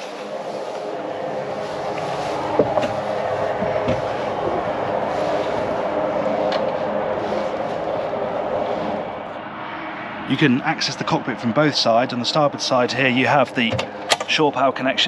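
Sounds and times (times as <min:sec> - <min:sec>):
mechanical hum and rushing: 0:00.0 - 0:15.0.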